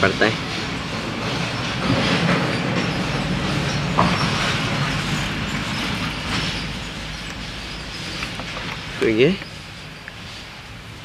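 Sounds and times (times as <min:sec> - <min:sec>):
steady rumbling: 0:00.0 - 0:11.0.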